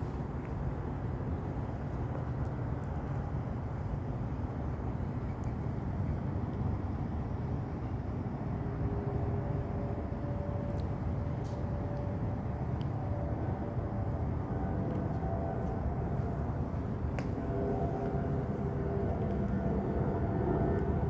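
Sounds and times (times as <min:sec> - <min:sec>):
faint steady howling tone: 0:00.0 - 0:21.0
jet engine and airflow rumble: 0:00.0 - 0:21.0.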